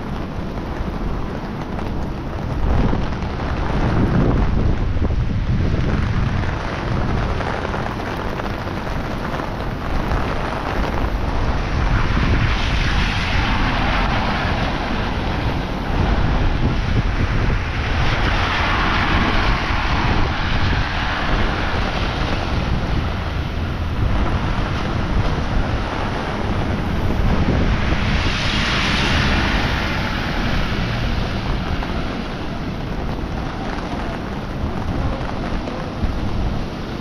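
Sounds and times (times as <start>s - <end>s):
heavy rain pouring: 0.0s - 37.0s
wind buffeting microphone: 0.0s - 37.0s.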